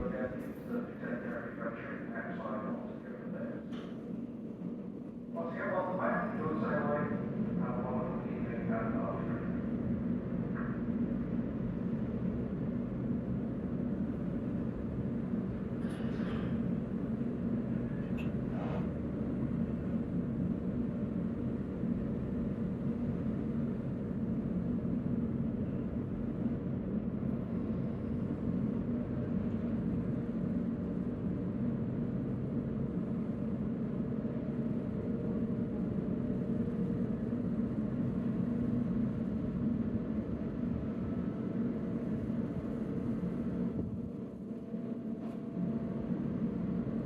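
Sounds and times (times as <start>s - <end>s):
ship machinery rumble and hum: 0.0s - 47.0s.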